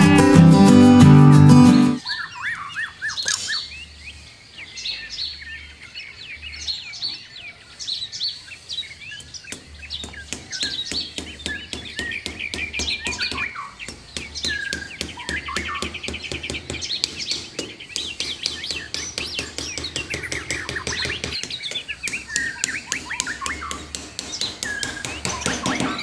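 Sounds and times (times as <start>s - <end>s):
songbirds chirping: 2.0s - 26.0s.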